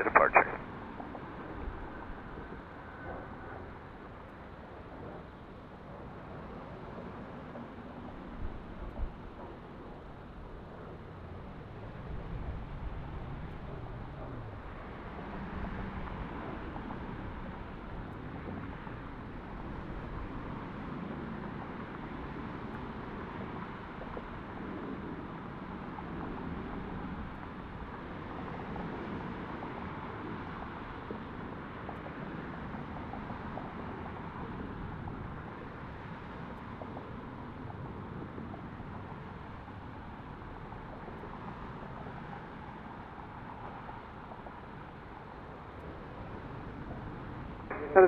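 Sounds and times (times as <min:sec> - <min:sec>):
jet engines at taxi power: 0:00.0 - 0:48.0.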